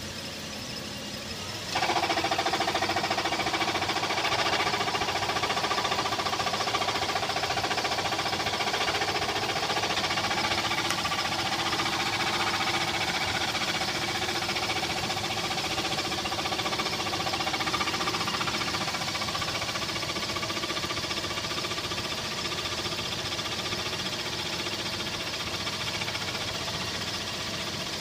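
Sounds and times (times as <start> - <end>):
pickup engine running: 0.0 - 28.0
rapid engine knocking: 0.1 - 28.0.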